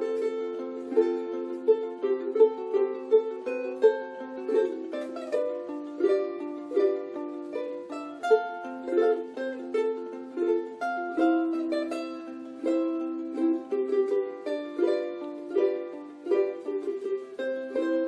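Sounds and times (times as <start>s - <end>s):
plucked ukulele melody: 0.0s - 18.0s
ukulele chords: 0.0s - 18.0s.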